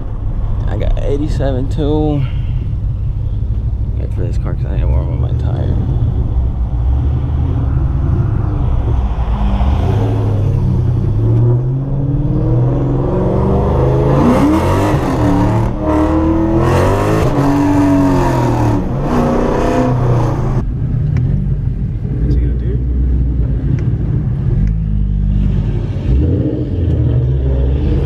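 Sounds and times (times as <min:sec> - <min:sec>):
car engine revving: 0:00.1 - 0:28.0.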